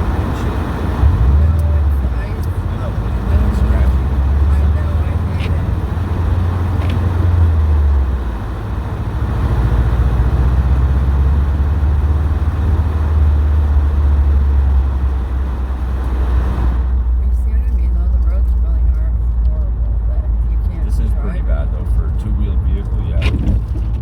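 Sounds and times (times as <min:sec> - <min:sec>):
car engine droning: 0:00.0 - 0:24.0
road noise: 0:00.0 - 0:24.0.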